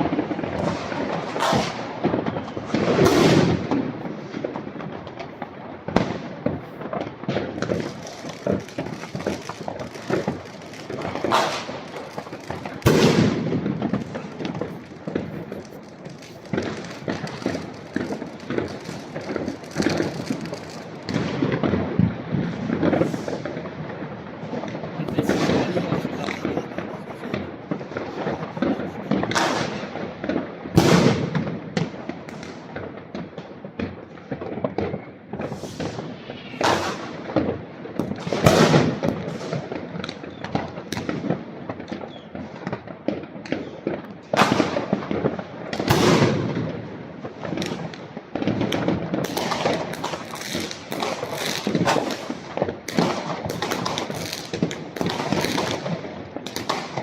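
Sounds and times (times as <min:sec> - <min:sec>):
fireworks booms: 0:00.0 - 0:57.0
fireworks crackling: 0:00.0 - 0:57.0.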